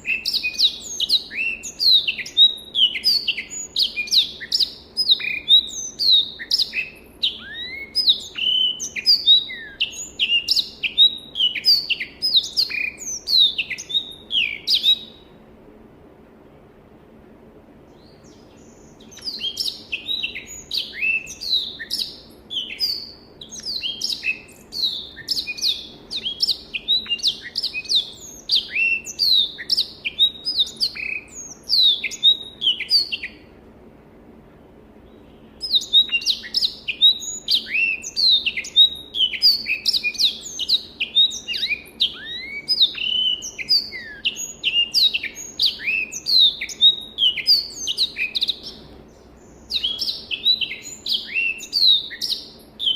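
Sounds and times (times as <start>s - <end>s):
canary singing: 0.0s - 15.2s, 18.0s - 33.4s, 35.3s - 52.9s.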